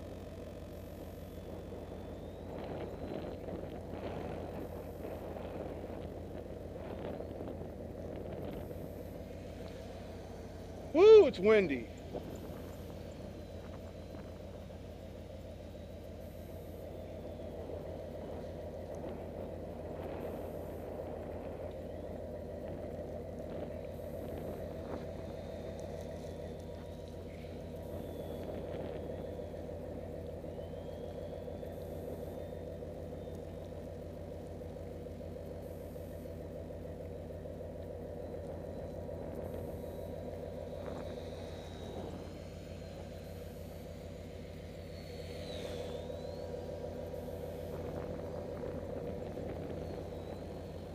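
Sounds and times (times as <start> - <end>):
low wind rumble: 0.0 - 50.9
model plane motor droning: 0.0 - 50.9.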